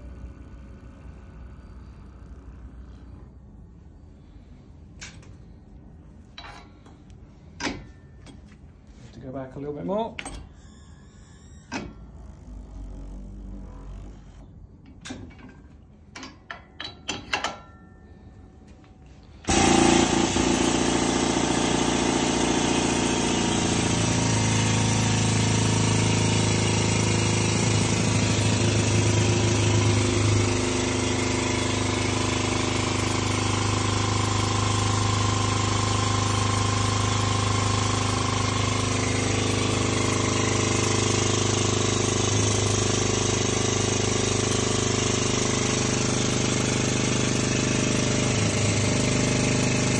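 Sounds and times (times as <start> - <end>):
hydraulic pump running loudly: 0.0 - 5.6, 6.4 - 15.8, 19.2 - 49.9.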